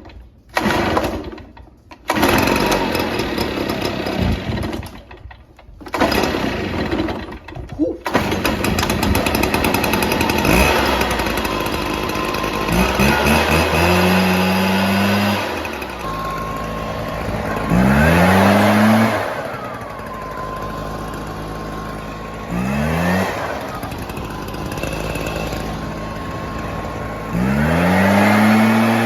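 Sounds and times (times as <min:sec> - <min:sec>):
leaf blower engine revving: 0:00.5 - 0:29.0.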